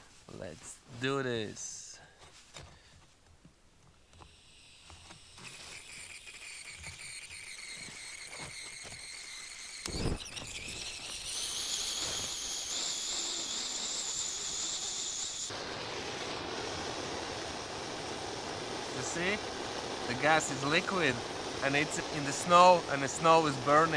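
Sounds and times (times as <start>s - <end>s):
gas hissing with high whistle: 4.1s - 23.9s
hissing burner flame: 4.1s - 23.9s.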